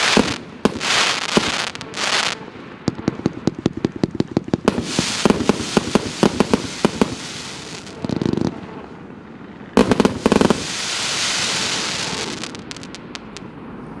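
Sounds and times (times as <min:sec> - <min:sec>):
hissing crackle of bursting stars: 0:00.0 - 0:09.0, 0:09.8 - 0:13.5
loud firework bangs: 0:00.0 - 0:09.0, 0:09.8 - 0:13.4.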